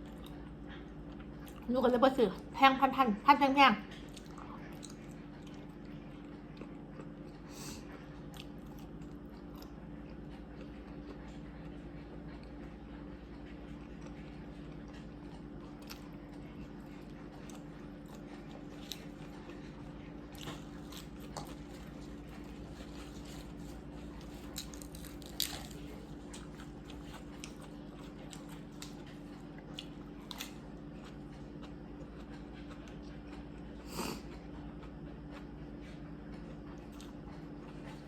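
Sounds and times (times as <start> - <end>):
chewing and crunching seafood: 0.0 - 2.6, 3.8 - 38.0
steady low hum: 0.0 - 38.0.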